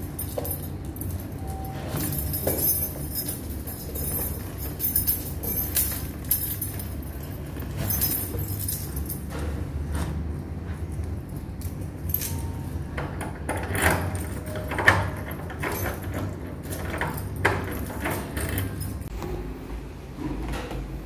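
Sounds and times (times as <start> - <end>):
keys jangling: 0.0 - 9.8, 10.9 - 19.1.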